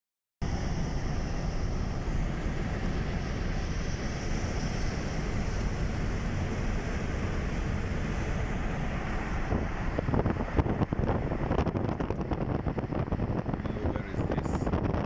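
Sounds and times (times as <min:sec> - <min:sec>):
road and wind noise in car: 0:00.4 - 0:15.0.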